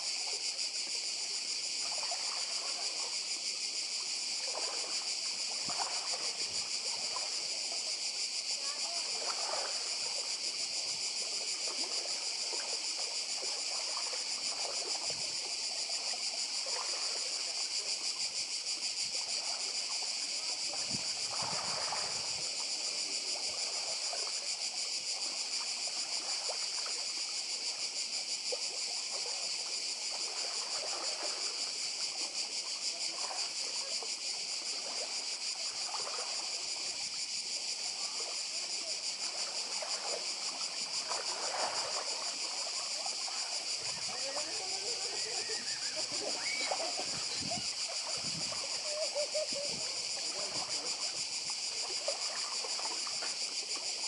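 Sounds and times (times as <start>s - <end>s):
cicadas buzzing: 0.0s - 54.0s
small waves lapping on stones: 0.0s - 54.0s.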